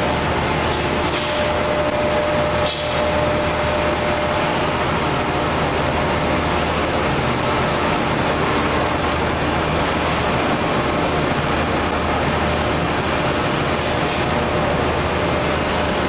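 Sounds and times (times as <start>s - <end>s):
hydraulic unit humming: 0.0s - 16.0s.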